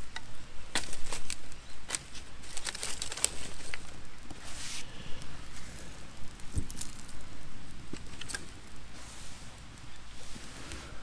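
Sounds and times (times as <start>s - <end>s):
campfire crackling and popping: 0.0s - 11.0s
low hiss: 0.0s - 11.0s.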